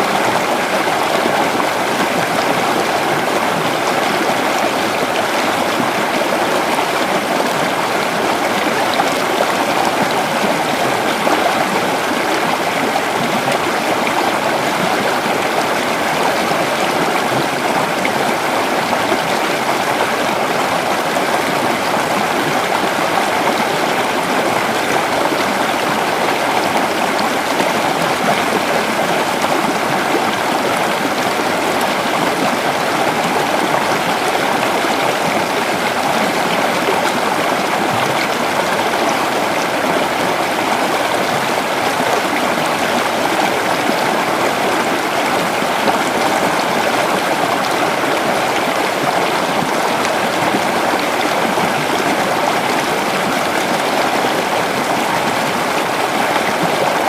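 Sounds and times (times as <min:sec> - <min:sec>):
creek water flowing over rocks: 0:00.0 - 0:57.0.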